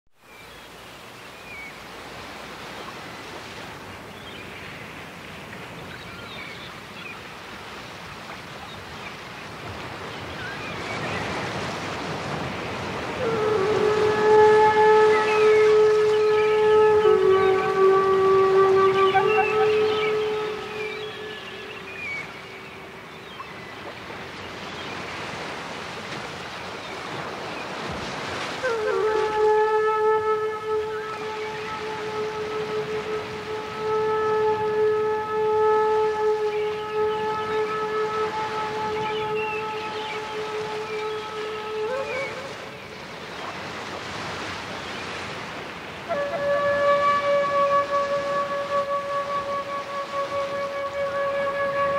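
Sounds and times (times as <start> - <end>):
ocean waves washing: 0.4 - 51.9.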